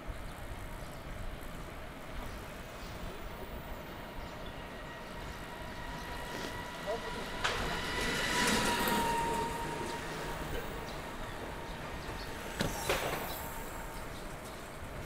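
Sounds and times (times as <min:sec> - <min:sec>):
street traffic noise: 0:00.1 - 0:15.0.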